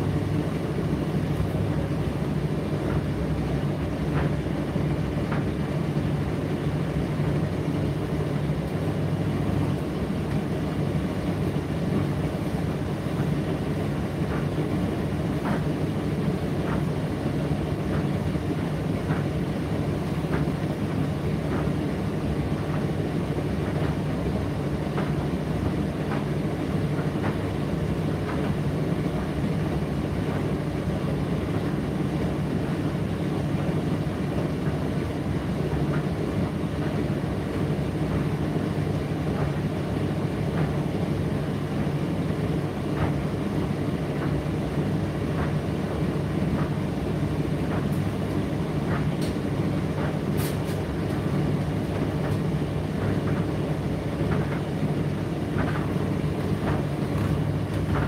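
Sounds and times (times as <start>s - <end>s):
tumble dryer humming: 0.0s - 58.0s.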